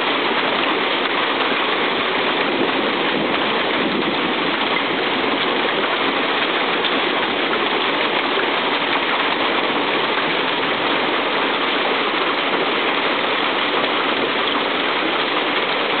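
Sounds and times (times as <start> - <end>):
hail and rain pelting: 0.0 - 16.0.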